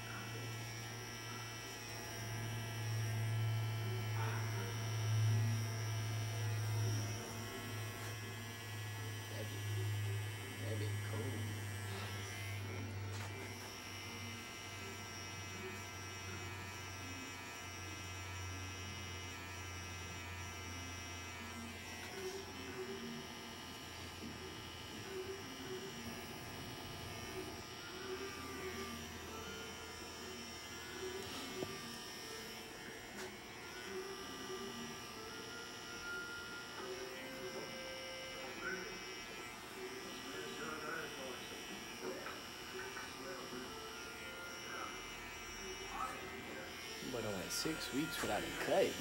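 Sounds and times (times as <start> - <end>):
electric hair trimmer buzzing: 0.0 - 49.0.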